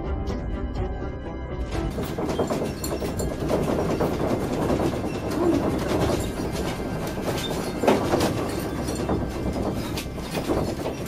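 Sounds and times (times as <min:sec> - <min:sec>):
objects rattling and clattering: 0:01.6 - 0:11.0
earthquake rumbling: 0:01.7 - 0:11.0.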